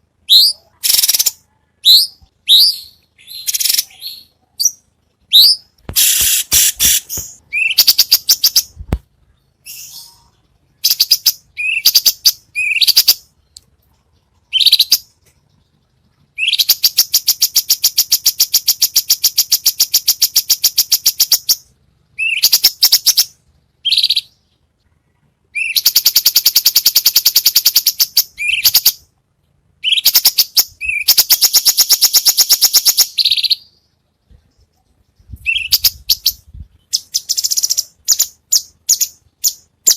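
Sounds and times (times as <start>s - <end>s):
songbird singing with trills: 0.0s - 24.6s, 25.5s - 29.1s, 29.8s - 39.9s.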